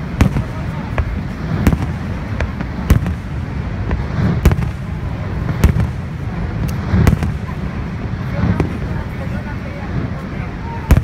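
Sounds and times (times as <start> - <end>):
fireworks bangs: 0.0 - 11.0
steady low rumble: 0.0 - 11.0.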